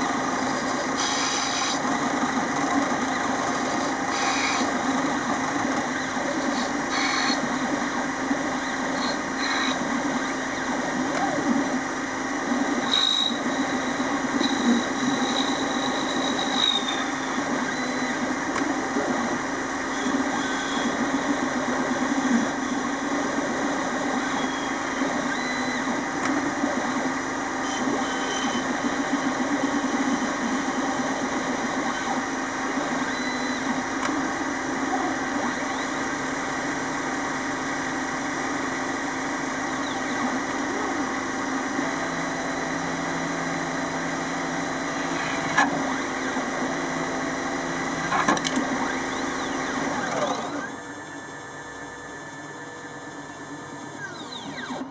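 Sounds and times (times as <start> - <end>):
lathe machine hum: 0.0 - 54.9.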